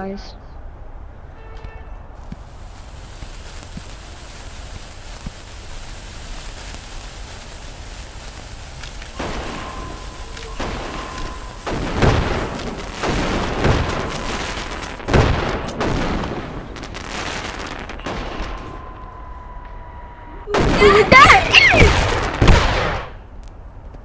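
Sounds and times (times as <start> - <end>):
firework bangs with crackling: 1.4 - 24.0
firework hiss: 2.2 - 23.2.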